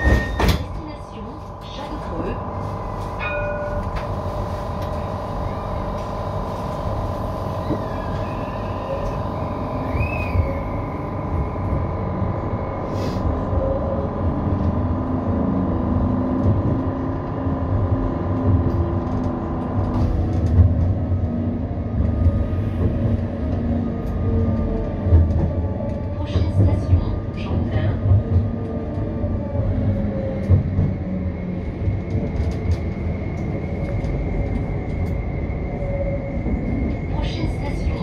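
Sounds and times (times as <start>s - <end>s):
tram rumbling on rails: 0.0s - 38.0s.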